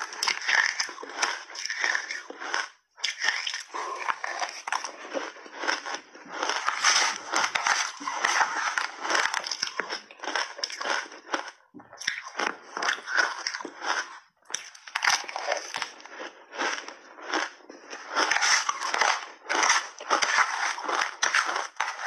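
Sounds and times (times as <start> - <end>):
crunching and chewing shaved ice: 0.0 - 22.0.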